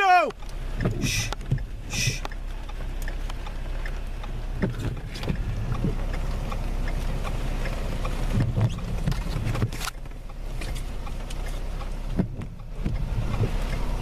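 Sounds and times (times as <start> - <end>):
vehicle road and engine rumble: 0.0 - 14.0.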